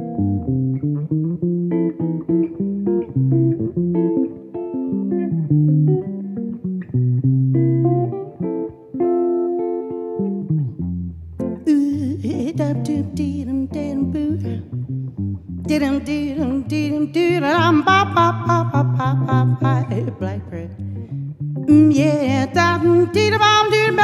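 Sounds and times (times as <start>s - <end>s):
jazz guitar playing: 0.0s - 24.0s.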